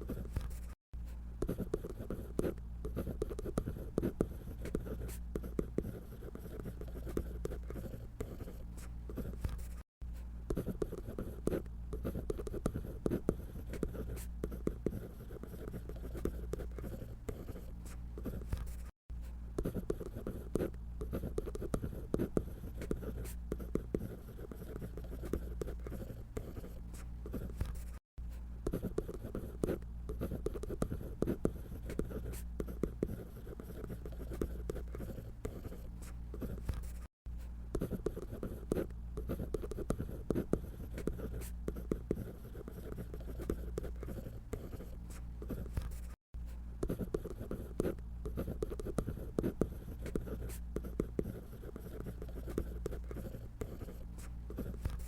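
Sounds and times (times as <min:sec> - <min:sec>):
drawing tool scratching paper: 0:00.0 - 0:00.8, 0:01.4 - 0:09.8, 0:10.5 - 0:18.9, 0:19.6 - 0:28.0, 0:28.6 - 0:37.1, 0:37.7 - 0:46.2, 0:46.8 - 0:55.0.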